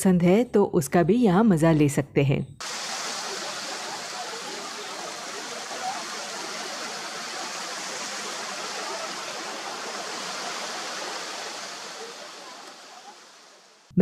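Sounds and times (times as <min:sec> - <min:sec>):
small waves on sandy beach: 0:02.6 - 0:13.9.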